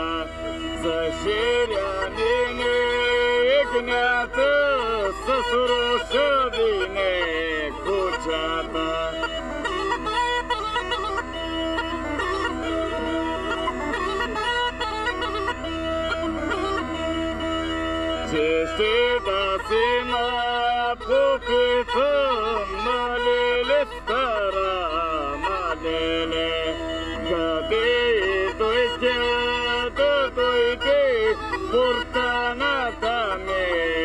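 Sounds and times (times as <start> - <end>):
bagpipe melody over drone: 0.0 - 34.0.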